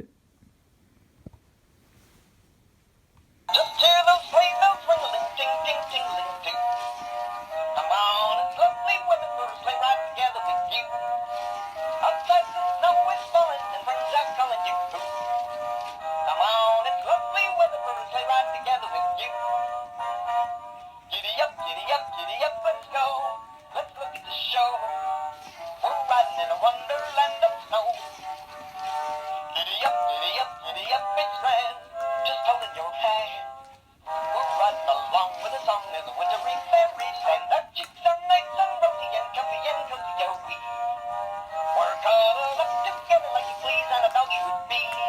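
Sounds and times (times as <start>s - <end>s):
tinny toy playing christmas song: 3.5s - 45.0s.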